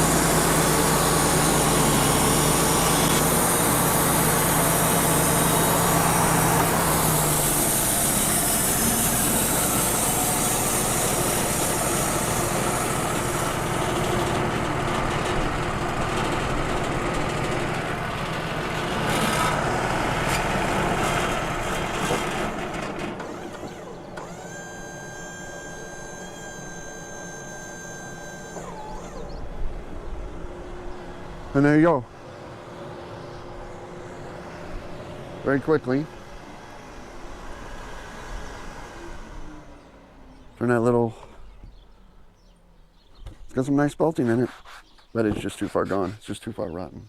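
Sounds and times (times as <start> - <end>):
sawmill machine whine: 0.0 - 46.3
band saw cutting log: 0.0 - 46.9.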